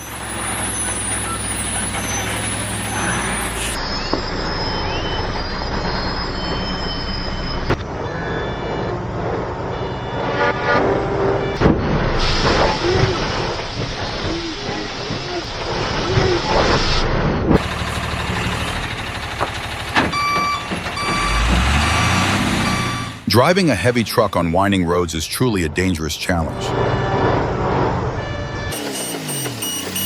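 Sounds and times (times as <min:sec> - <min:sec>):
heavy truck engines running: 0:00.0 - 0:30.0.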